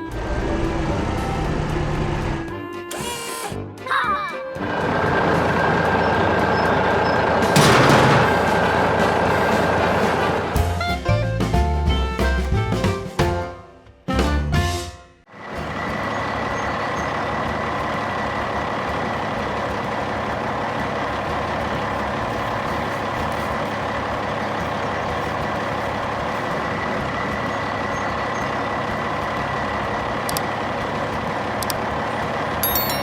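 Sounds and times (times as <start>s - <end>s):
heavy vehicle engine droning: 0.0s - 3.3s, 4.6s - 12.8s, 15.3s - 33.0s.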